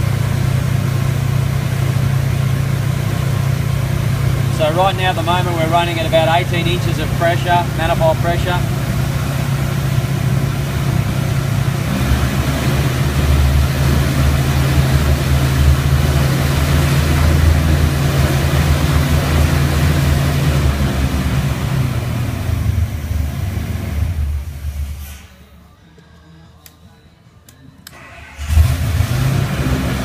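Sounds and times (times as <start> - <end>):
radial engine running: 0.0 - 24.6.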